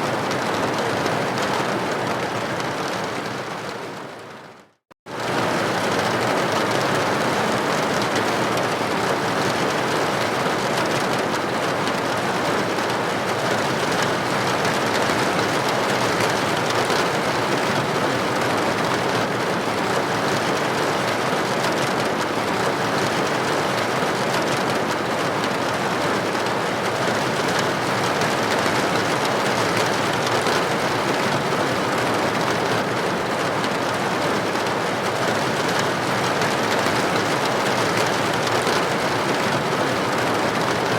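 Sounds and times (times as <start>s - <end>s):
rain on window: 0.0s - 40.9s.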